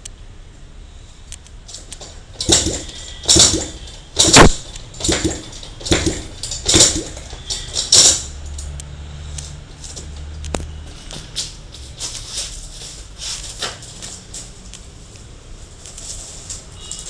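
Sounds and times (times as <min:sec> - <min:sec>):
motorcycle engine turning over: 0:01.5 - 0:17.0.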